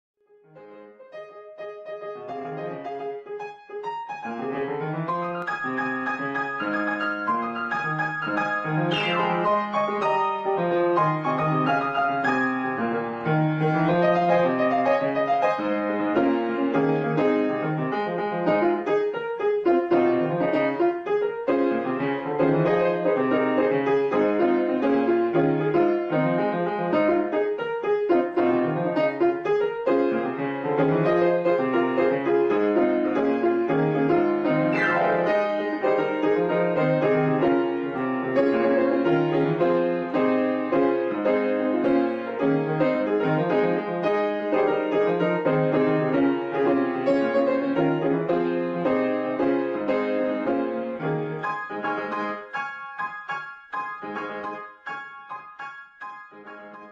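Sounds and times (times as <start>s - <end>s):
piano music: 0.3s - 56.9s.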